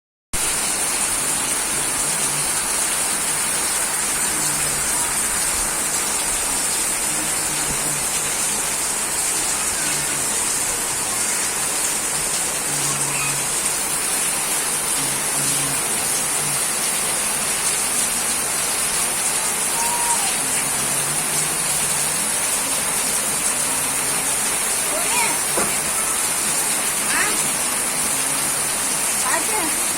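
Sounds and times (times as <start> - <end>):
steady rain falling: 0.4 - 29.9.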